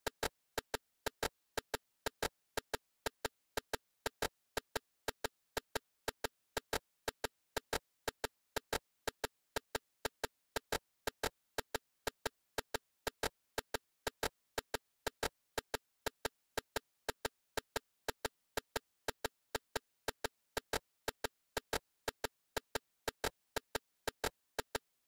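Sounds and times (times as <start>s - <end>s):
sharp clicks: 0.0s - 25.0s.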